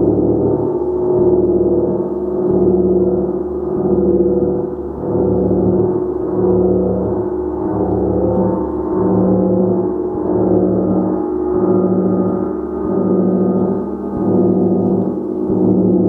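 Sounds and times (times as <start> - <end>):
gong shimmering tones: 0.0 - 16.0.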